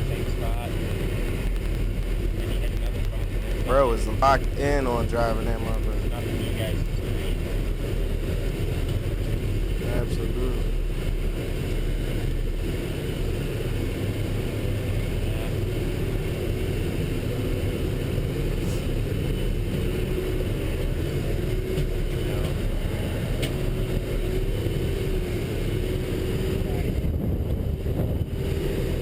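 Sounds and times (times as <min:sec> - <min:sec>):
truck engine rumble: 0:00.0 - 0:29.0.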